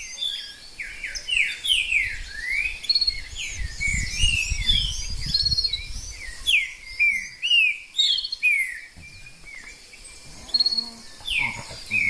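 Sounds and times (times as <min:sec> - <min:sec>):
birds whistling falling notes: 0:00.0 - 0:12.0
high bird trill: 0:00.0 - 0:12.0.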